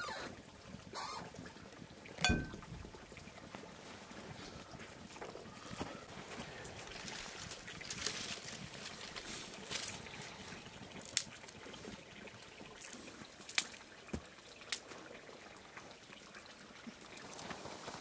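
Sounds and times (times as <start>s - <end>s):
water trickling: 0.0s - 5.2s, 6.3s - 17.9s.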